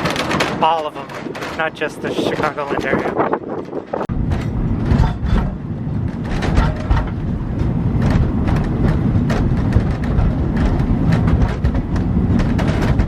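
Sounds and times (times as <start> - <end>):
knocks and clacks of wheels: 0.0 - 13.0
train car rumbling along track: 0.0 - 13.0.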